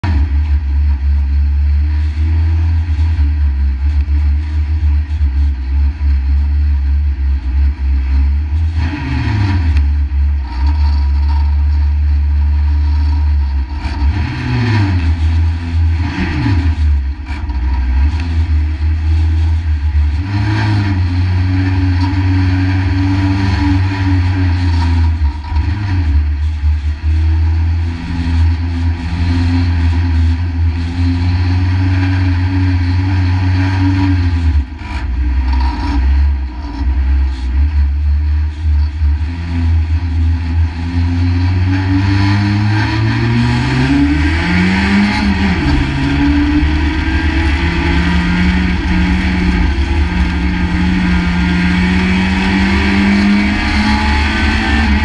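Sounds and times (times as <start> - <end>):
racing car engine running hard: 0.0 - 55.0.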